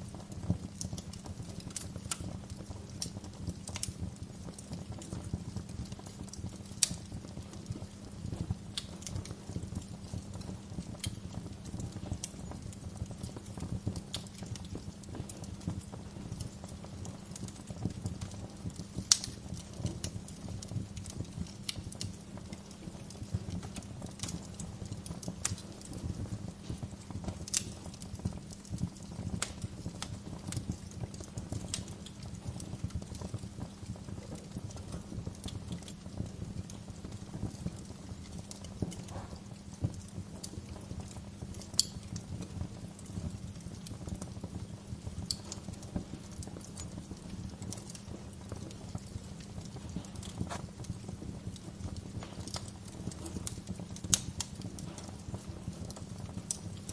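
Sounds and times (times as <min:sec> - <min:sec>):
sharp fire pops: 0:00.0 - 0:56.9
wood fire crackling: 0:00.0 - 0:56.9.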